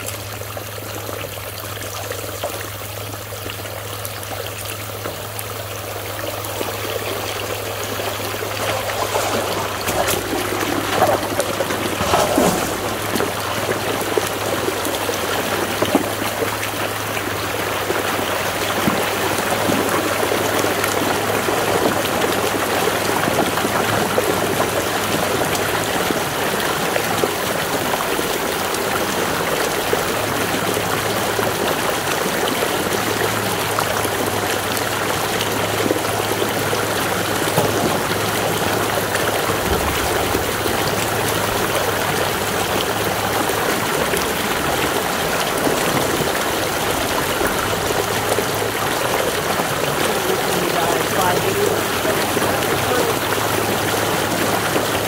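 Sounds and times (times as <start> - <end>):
water splashing from drain pipe: 0.0 - 55.0.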